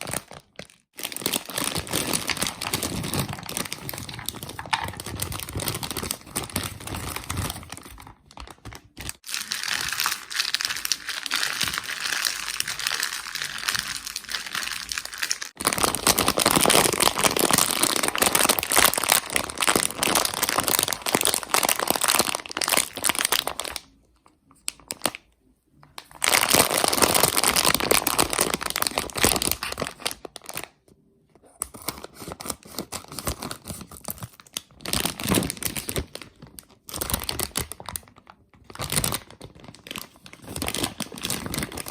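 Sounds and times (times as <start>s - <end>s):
plastic sweet bags crinkling: 0.0s - 25.3s, 25.9s - 30.8s, 31.6s - 41.9s.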